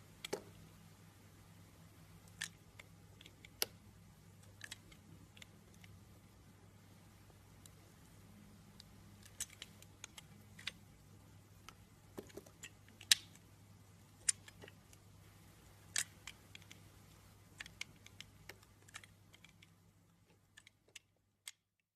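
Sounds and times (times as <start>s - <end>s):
faint low hum: 0.0s - 21.9s.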